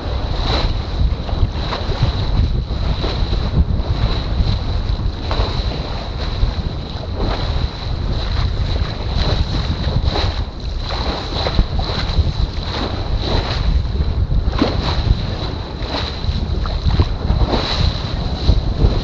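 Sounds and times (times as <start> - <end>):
waves splashing along hull: 0.0 - 19.0
wind buffeting microphone: 0.0 - 19.0.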